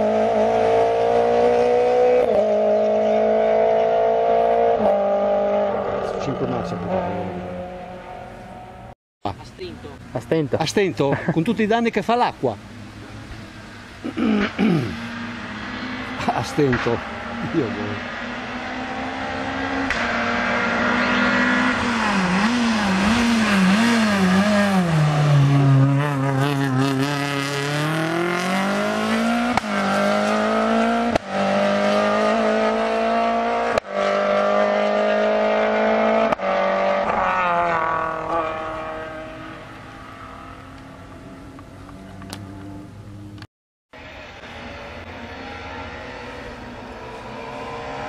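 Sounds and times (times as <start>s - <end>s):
rally car engine accelerating: 0.0s - 8.7s, 14.0s - 43.4s, 44.0s - 48.0s.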